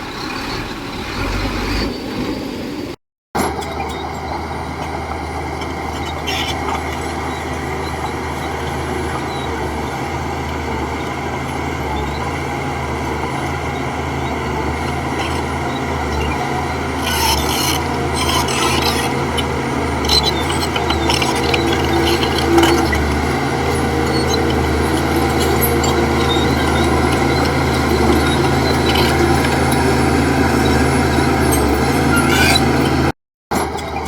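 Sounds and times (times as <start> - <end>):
bulldozer diesel engine running: 0.0 - 34.0
heavy machinery scraping: 3.4 - 34.0.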